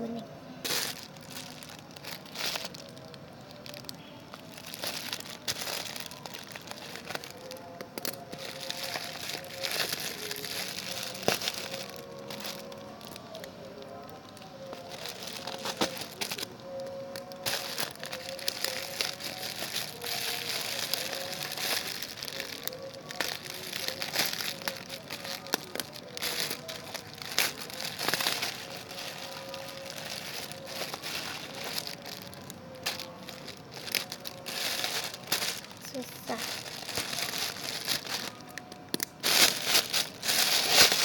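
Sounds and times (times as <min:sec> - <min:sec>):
packaging crinkling and rustling: 0:00.6 - 0:41.0.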